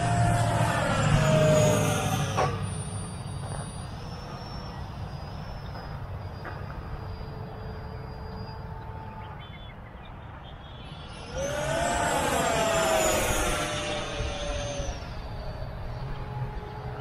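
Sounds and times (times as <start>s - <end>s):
model jet fan whine: 0.0s - 17.0s.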